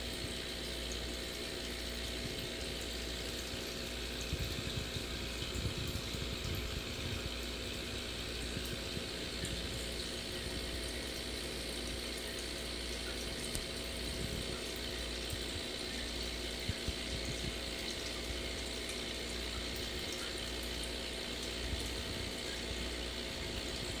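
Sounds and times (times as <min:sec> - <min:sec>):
aquarium bubbles: 0:00.0 - 0:24.0
low steady hum: 0:00.0 - 0:24.0.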